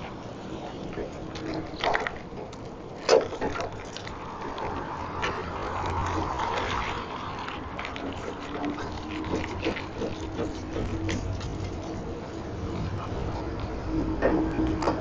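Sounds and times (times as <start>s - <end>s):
street traffic noise: 0.0s - 15.0s
vehicle passing: 0.0s - 15.0s.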